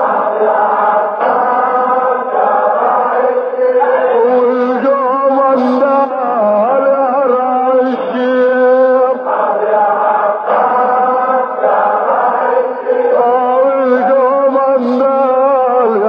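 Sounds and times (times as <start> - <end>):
group of male voices chanting: 0.0 - 16.0
man chanting a lament: 0.8 - 16.0.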